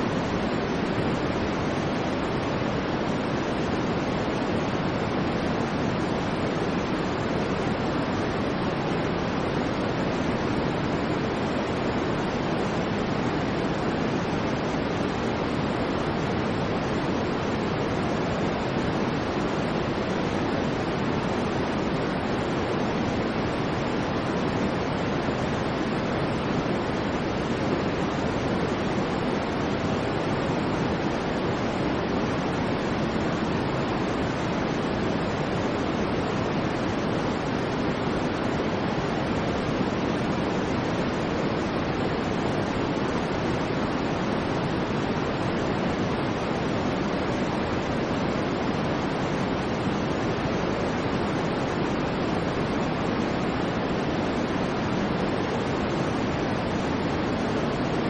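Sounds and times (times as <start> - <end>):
steady white noise: 0.0 - 58.0.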